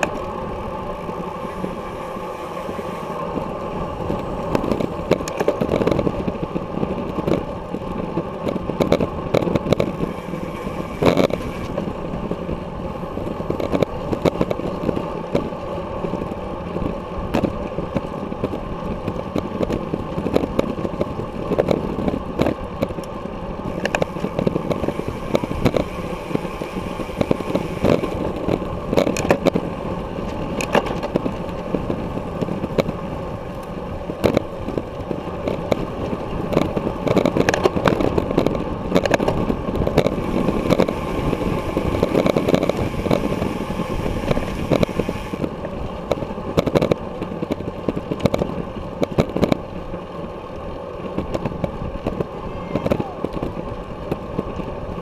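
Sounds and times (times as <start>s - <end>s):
road rumble: 0.0s - 55.0s
wind buffeting: 0.0s - 55.0s
sharp clicks and rattles: 3.2s - 55.0s.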